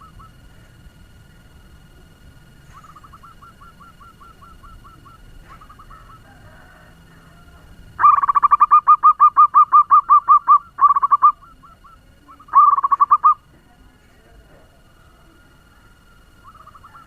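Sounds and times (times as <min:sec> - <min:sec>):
dove staccato cooing: 0:00.0 - 0:13.7, 0:14.6 - 0:17.0.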